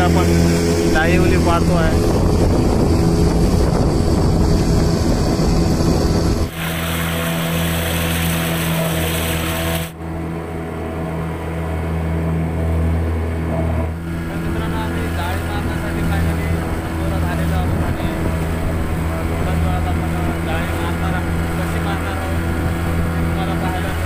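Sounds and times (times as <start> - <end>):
outboard motor running: 0.0 - 24.0
water splashing along hull: 0.0 - 24.0.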